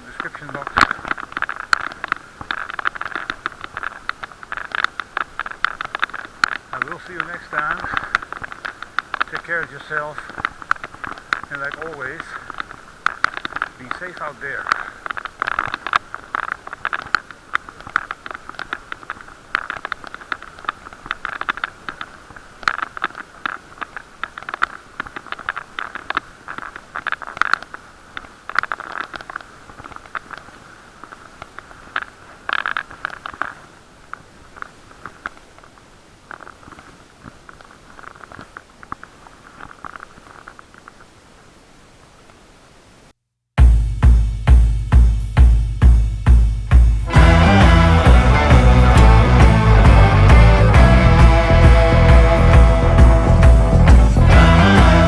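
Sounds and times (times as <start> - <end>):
muffled crackling and clicking: 0.0 - 43.2, 44.0 - 55.0
steady hiss: 0.0 - 55.0.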